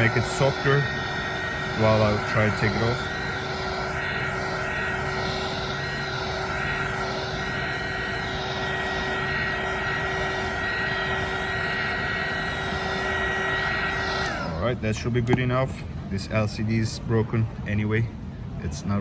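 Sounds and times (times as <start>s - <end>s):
heat gun fan whine: 0.0s - 16.4s.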